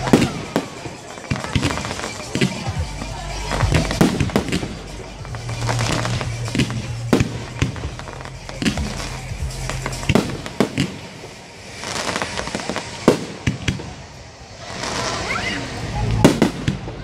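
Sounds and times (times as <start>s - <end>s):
fireworks crackle: 0.0s - 17.0s
fireworks shells bursting: 0.0s - 17.0s.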